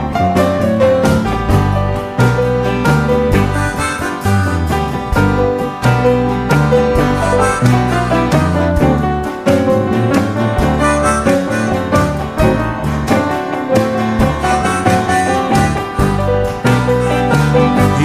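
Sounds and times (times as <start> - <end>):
electric guitar chords: 0.0 - 18.0
keyboard piano chords: 0.0 - 18.0.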